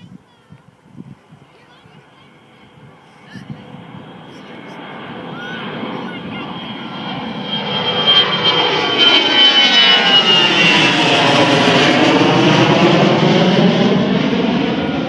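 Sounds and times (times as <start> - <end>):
jet airliner engines whining: 0.0 - 15.0.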